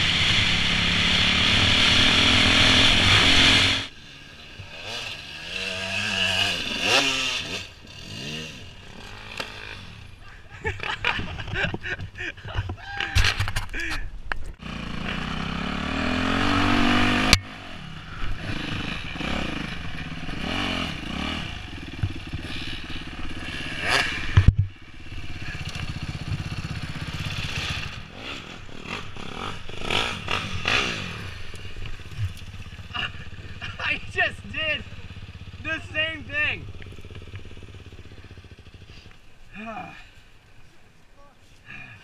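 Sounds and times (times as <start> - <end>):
dirt bike engine revving: 0.0 - 11.6, 14.6 - 39.8.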